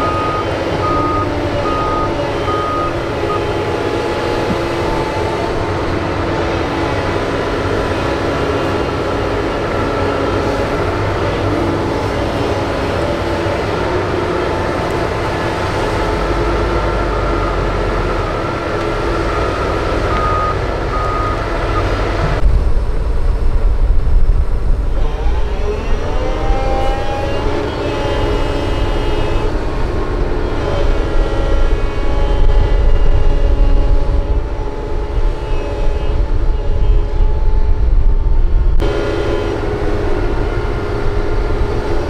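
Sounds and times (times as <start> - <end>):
dump truck engine revving: 0.0 - 22.8, 24.4 - 36.0, 38.8 - 42.0
excavator engine and hydraulics: 0.0 - 42.0.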